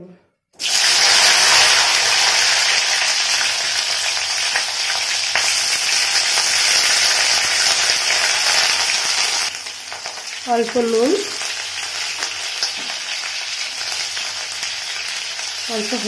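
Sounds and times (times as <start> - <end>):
beans frying in oil: 0.6 - 16.0.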